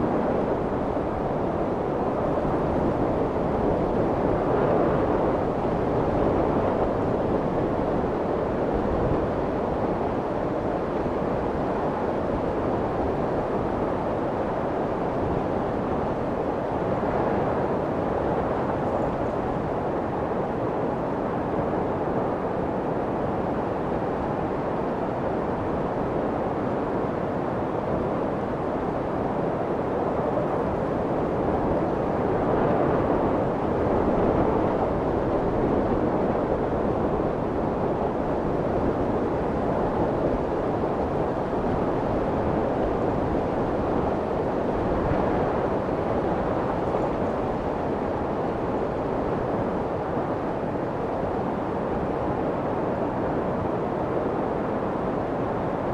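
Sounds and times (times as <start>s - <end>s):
muffled white noise: 0.0s - 55.9s.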